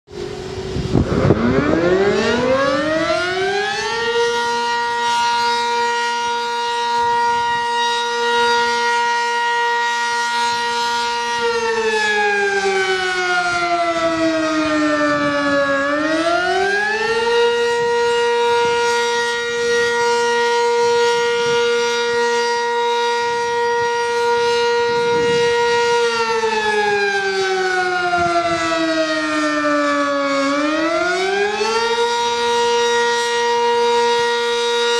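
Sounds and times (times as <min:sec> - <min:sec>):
warning siren wailing: 0:00.1 - 0:34.9.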